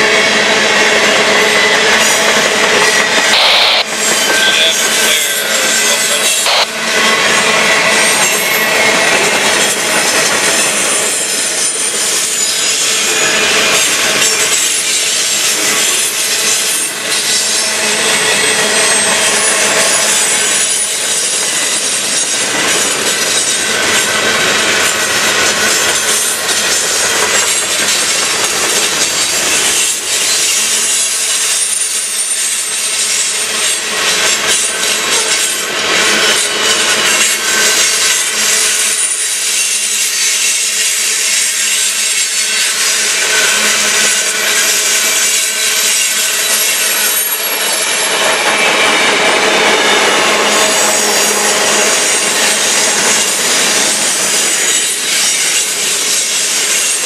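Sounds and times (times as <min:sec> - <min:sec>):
train wheels grinding on rails: 0:00.0 - 0:57.0.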